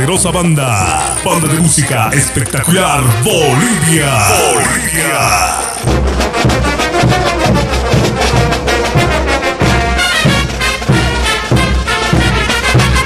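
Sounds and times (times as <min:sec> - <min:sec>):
brass band playing: 0:01.1 - 0:13.0.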